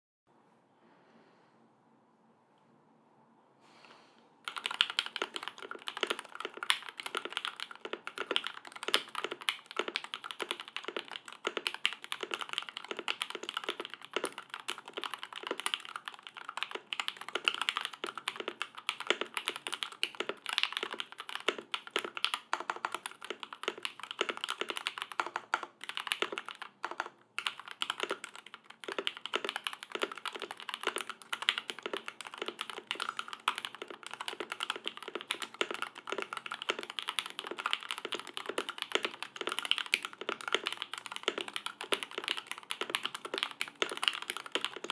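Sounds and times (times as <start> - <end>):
fast typing on mechanical keyboard: 4.4 - 44.9.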